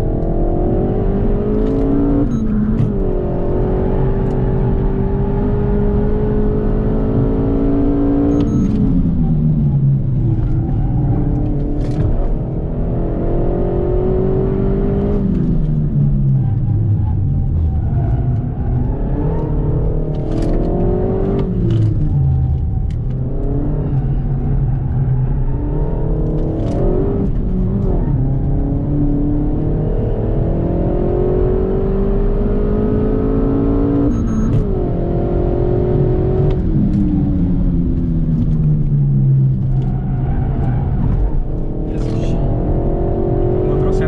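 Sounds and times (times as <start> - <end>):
car engine revving through gears: 0.0 - 44.0.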